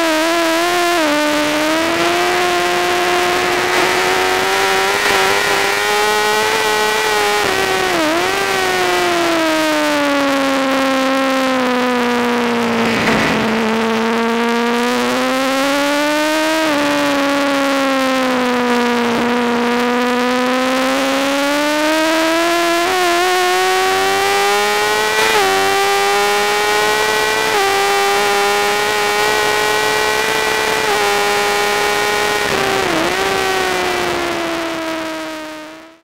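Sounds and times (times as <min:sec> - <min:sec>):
motorcycle engine at racing speed: 0:00.0 - 0:36.0.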